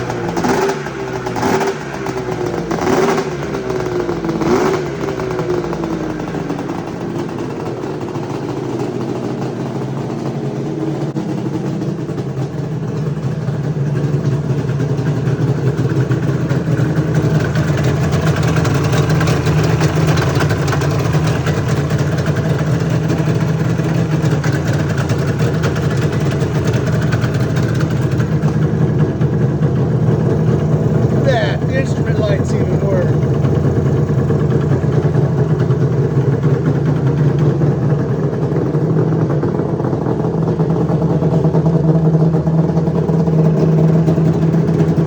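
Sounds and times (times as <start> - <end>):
snowmobile engine idling: 0.0 - 45.0.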